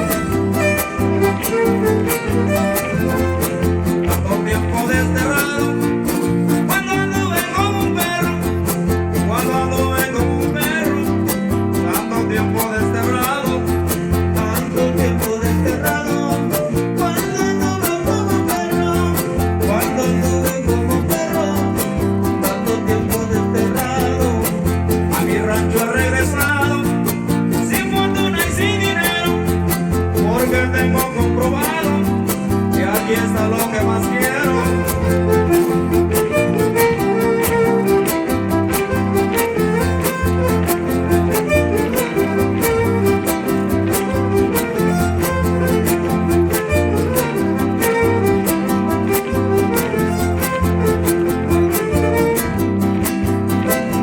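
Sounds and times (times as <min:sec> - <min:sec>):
violin melody: 0:00.0 - 0:15.4, 0:16.1 - 0:54.0
plucked bass line: 0:00.0 - 0:54.0
strummed guitars: 0:00.0 - 0:54.0.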